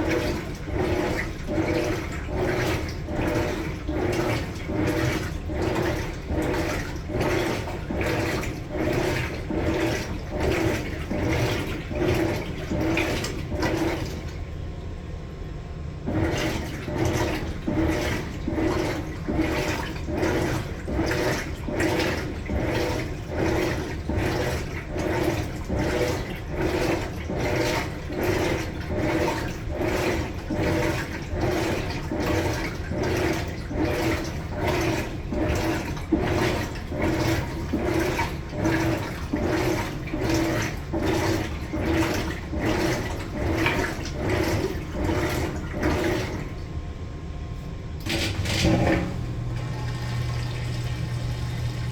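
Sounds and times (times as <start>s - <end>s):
low motor hum: 0.0s - 51.9s
washing machine water sloshing: 0.0s - 51.9s.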